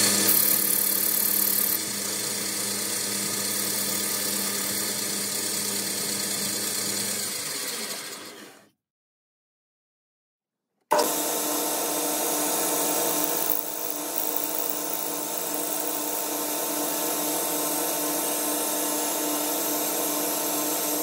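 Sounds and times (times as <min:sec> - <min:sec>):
lathe humming: 0:00.0 - 0:08.4, 0:10.9 - 0:21.0.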